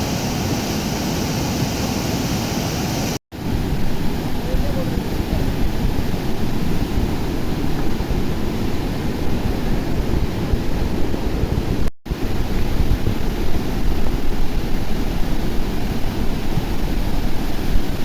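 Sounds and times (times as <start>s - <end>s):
river rushing: 0.0s - 18.0s
wind buffeting microphone: 3.3s - 18.0s.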